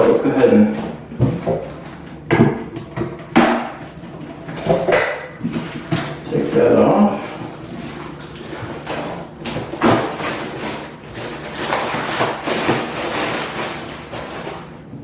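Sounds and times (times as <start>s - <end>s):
cardboard and plastic rustling: 0.0s - 15.0s.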